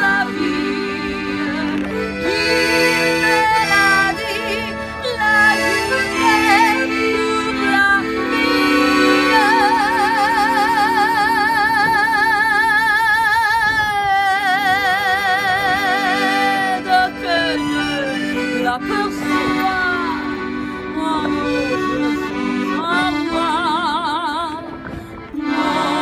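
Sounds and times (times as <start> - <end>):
woman singing: 0.0 - 1.9, 3.3 - 26.0
accordion chords: 0.0 - 26.0.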